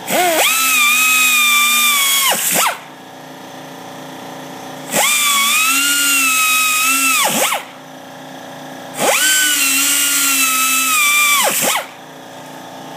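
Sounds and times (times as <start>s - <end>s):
air grinder drilling whine: 0.0s - 7.9s, 8.9s - 12.4s.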